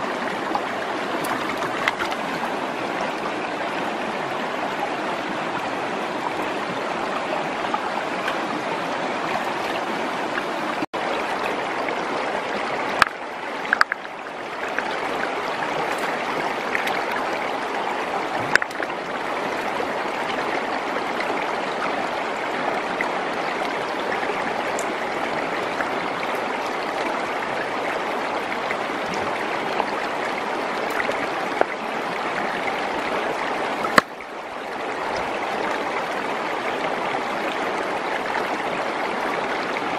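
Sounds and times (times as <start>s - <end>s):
rocky stream running: 0.0s - 39.9s.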